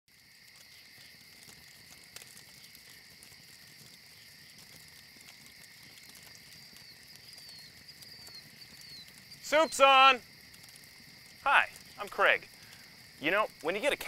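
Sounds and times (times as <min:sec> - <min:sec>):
crickets singing: 0:00.1 - 0:14.0
wood fire crackling: 0:00.1 - 0:14.0.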